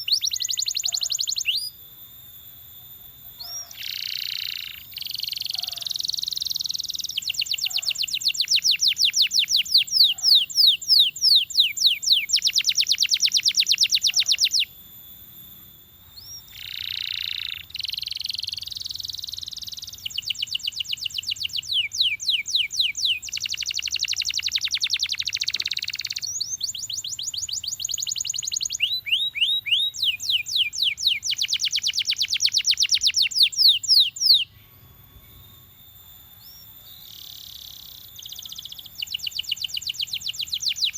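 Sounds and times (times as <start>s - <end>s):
canary singing trills: 0.0s - 1.8s, 2.9s - 40.9s.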